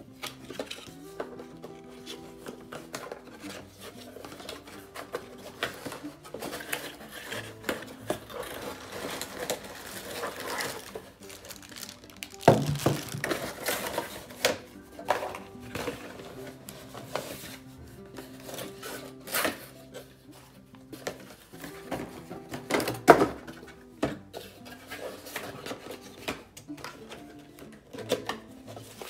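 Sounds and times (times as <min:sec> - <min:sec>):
soft background music: 0:00.0 - 0:29.0.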